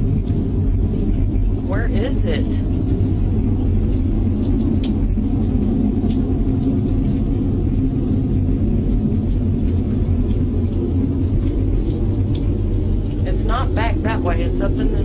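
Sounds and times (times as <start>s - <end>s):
deep rumbling drone: 0.0s - 15.0s.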